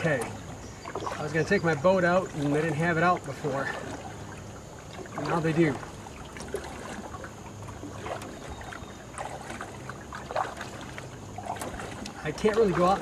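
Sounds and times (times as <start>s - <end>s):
paddle splashes: 0.0s - 13.0s
water trickling and dripping: 0.0s - 13.0s.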